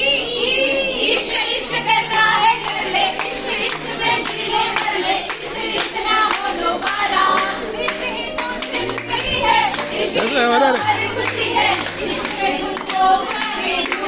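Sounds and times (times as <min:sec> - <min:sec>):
women singing in unison: 0:00.0 - 0:14.0
hand claps: 0:01.8 - 0:14.0.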